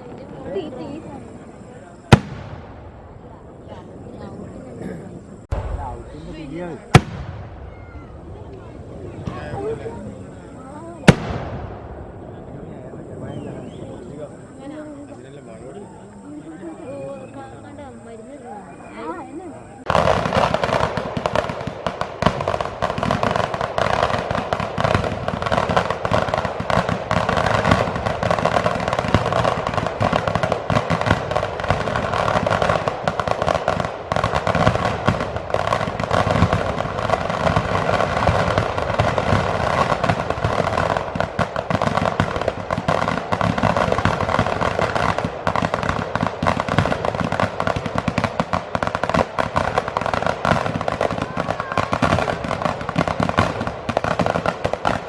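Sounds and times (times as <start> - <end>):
fireworks and firecrackers crackling: 0.0 - 55.0.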